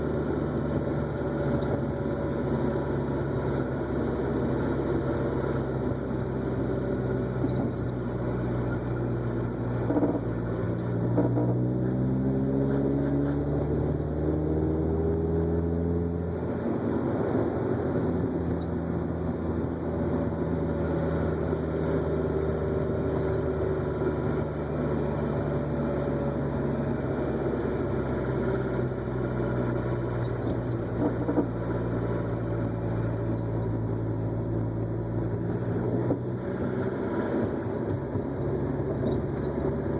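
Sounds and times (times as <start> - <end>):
four-cylinder engine running: 0.0 - 39.9.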